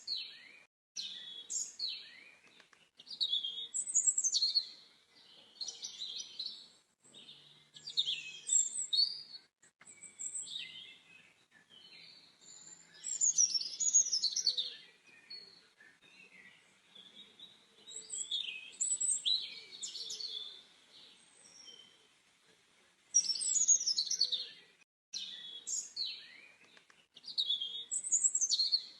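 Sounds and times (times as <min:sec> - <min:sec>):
songbirds chirping and trilling: 0:00.0 - 0:28.9.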